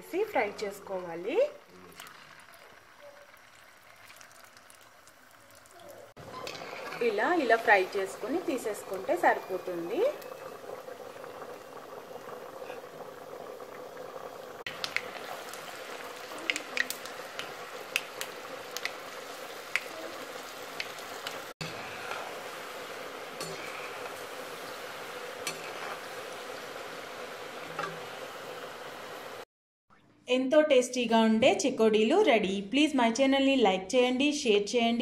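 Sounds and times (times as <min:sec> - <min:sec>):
dough deep-frying in oil: 0:00.0 - 0:29.5
oil popping and crackling: 0:00.2 - 0:29.4.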